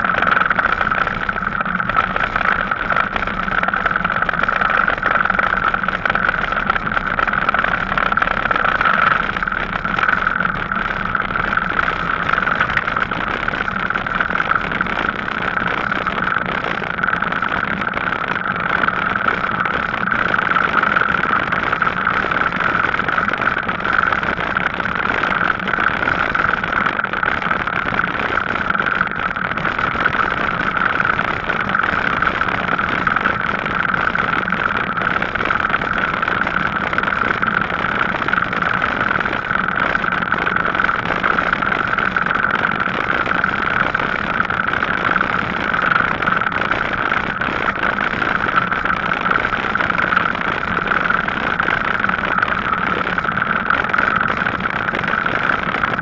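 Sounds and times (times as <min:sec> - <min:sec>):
electric bike hum and whine: 0:00.0 - 0:56.0.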